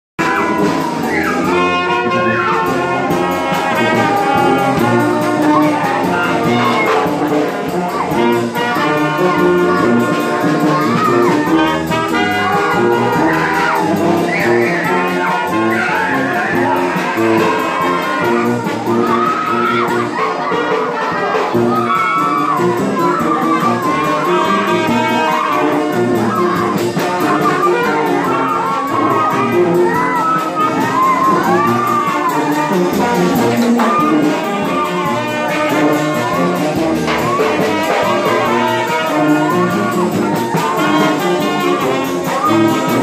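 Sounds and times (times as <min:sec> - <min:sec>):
bass horn: 0:00.2 - 0:43.0
drum kit cymbal beat: 0:00.2 - 0:43.0
trumpets playing melody: 0:00.2 - 0:43.0.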